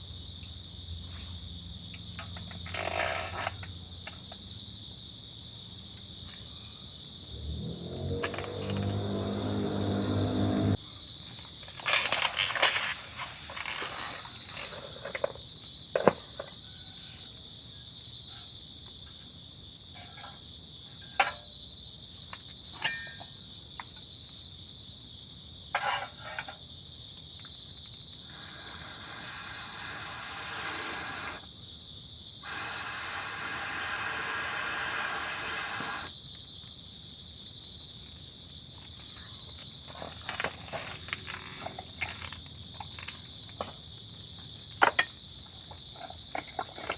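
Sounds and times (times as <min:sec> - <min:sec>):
insects chirping: 0:00.0 - 0:20.9, 0:26.4 - 0:46.9.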